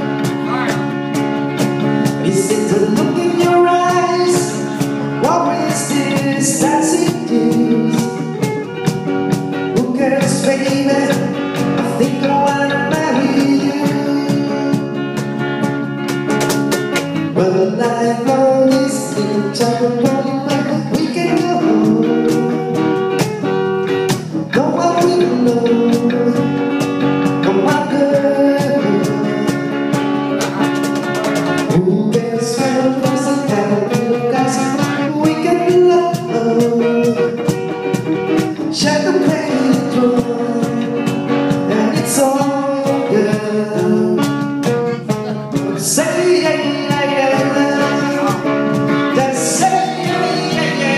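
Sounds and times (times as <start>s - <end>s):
person singing: 0.0s - 0.9s, 2.0s - 8.8s, 9.7s - 15.0s, 17.3s - 23.0s, 24.1s - 30.8s, 31.6s - 37.6s, 38.4s - 50.9s
drums: 0.0s - 50.9s
electric guitar: 0.0s - 50.9s
lead melody: 0.0s - 50.9s.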